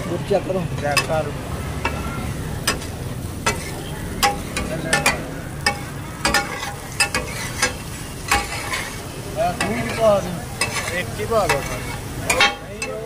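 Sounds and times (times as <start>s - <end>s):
frying sizzle: 0.0s - 13.0s
spatulas clanking on griddle: 0.0s - 13.0s.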